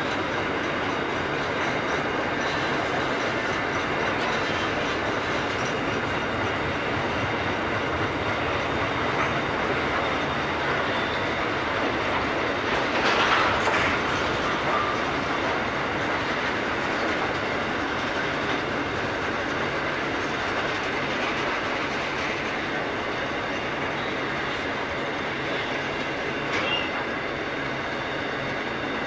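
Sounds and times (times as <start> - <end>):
steel wheels running on rails: 0.0 - 29.0.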